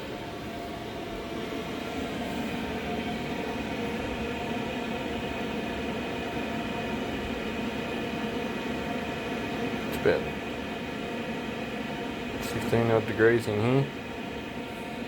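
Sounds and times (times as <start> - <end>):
diesel air heater droning: 0.0 - 15.0.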